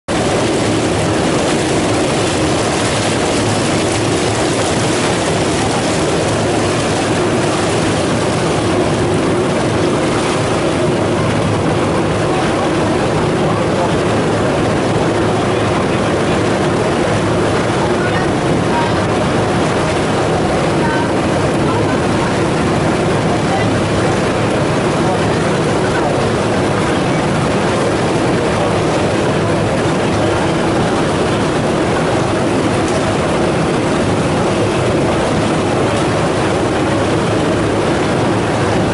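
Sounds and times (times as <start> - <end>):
ferry engine running: 0.0 - 38.9
water rushing along hull: 0.0 - 38.9.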